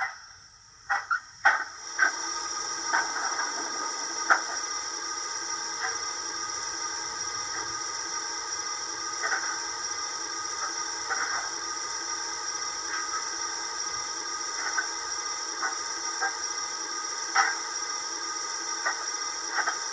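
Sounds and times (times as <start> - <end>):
steam hiss: 1.6 - 19.9.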